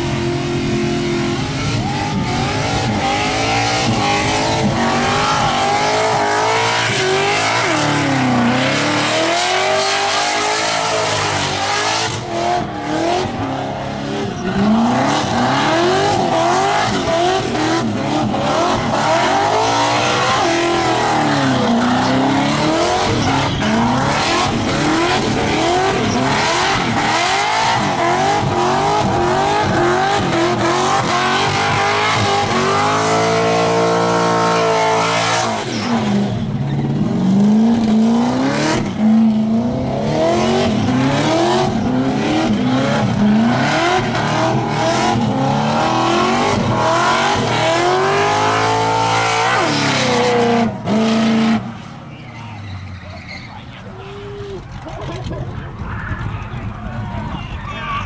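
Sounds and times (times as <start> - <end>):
car engine revving hard: 0.0 - 52.1
tyres spinning and squealing: 0.7 - 58.0.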